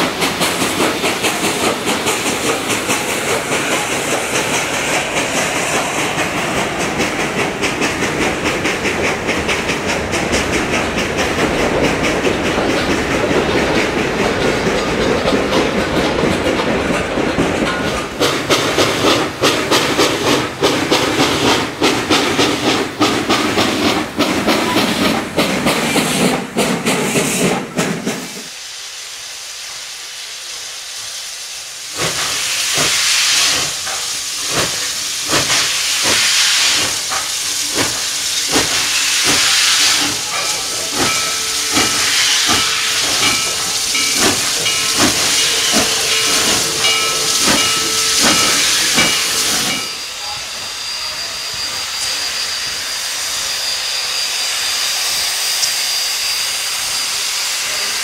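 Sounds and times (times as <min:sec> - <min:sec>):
train wheels clattering over rail joints: 0:00.0 - 0:28.5, 0:32.0 - 0:50.0
steam hissing: 0:00.0 - 0:58.0
steam locomotive exhaust beats: 0:00.0 - 0:58.0.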